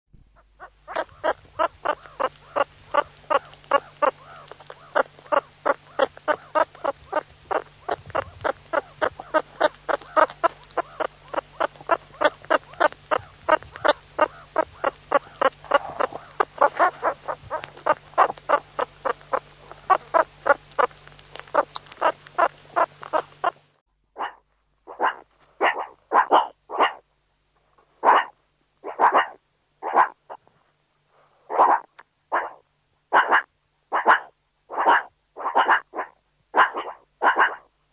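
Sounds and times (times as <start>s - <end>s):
steady background hum: 0.2s - 37.9s
meerkat calls: 0.4s - 23.6s, 24.2s - 27.0s, 28.0s - 30.4s, 31.5s - 37.7s.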